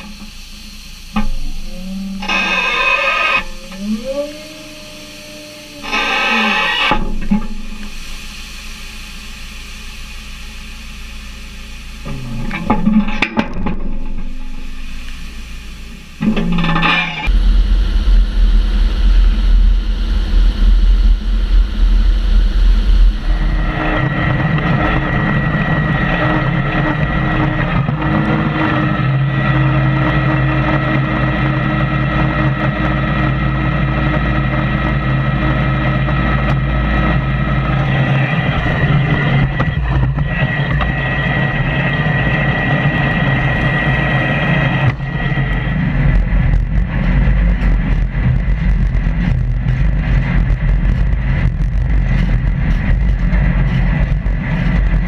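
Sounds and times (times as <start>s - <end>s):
baler machinery running: 0.0s - 55.0s
deep rumble: 0.0s - 55.0s
tractor engine: 0.0s - 55.0s.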